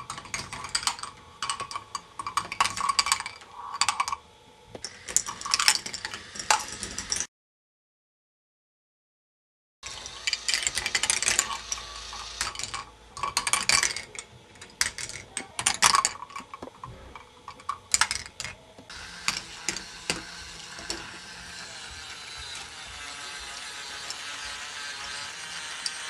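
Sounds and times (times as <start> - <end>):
balls clattering along plastic track: 0.0 - 4.2, 4.8 - 7.3, 9.9 - 26.0.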